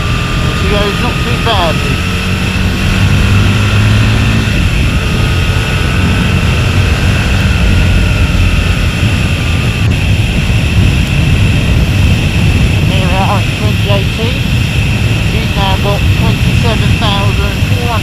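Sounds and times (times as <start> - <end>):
motorcycle engine running: 0.0 - 18.0
wind rush on microphone: 0.0 - 18.0.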